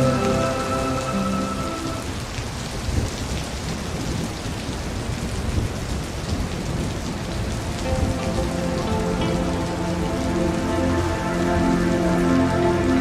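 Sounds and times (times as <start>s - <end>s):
rain splashing into a puddle: 0.0s - 13.0s.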